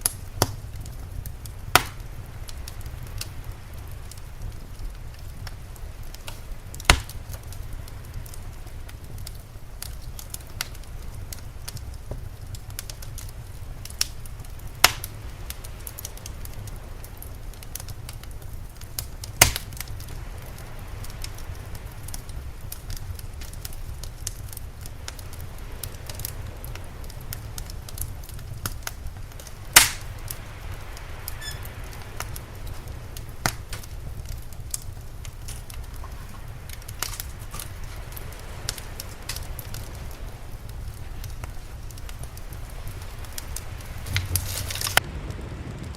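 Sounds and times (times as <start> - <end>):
wood fire crackling and popping: 0.0 - 45.9
low rumble: 0.7 - 45.9.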